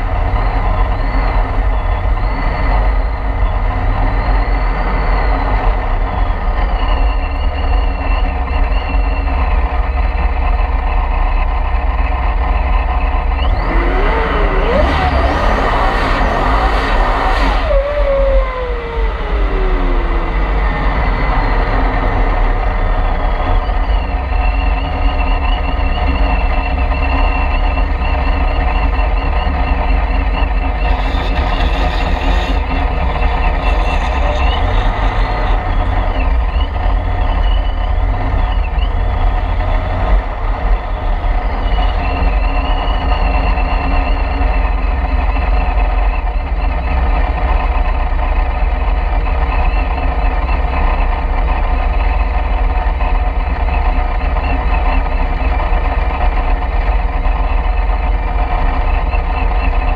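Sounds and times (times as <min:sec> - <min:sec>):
car engine rumbling: 0:00.0 - 0:59.9
high whine: 0:00.0 - 0:59.9.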